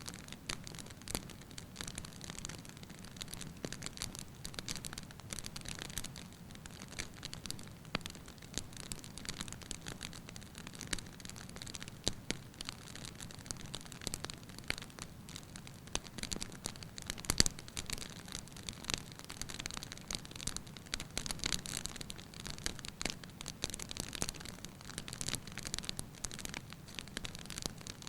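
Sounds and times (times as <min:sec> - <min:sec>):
logs crackling in fireplace: 0:00.1 - 0:28.0.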